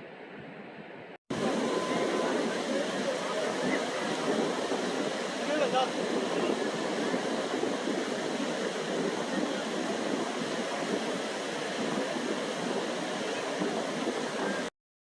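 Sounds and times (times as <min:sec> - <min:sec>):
sea surf washing: 0:01.3 - 0:14.7.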